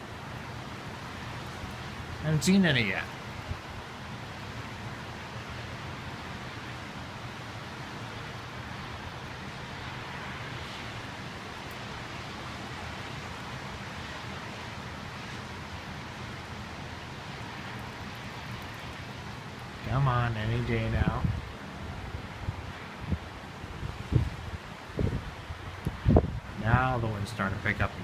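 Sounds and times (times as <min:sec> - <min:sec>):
rain and wind hiss: 0:00.0 - 0:28.0.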